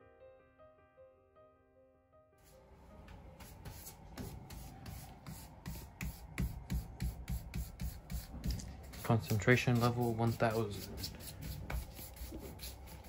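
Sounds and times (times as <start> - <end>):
foam paint roller rubbing: 2.5 - 13.0.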